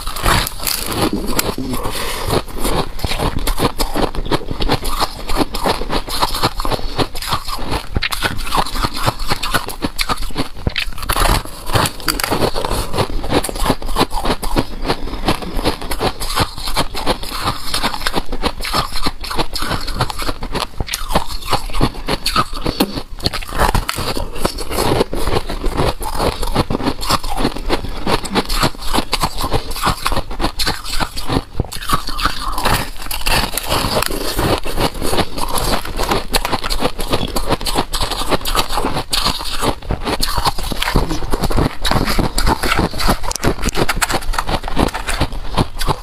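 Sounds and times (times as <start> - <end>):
frost being chewed crunching: 0.0 - 46.0.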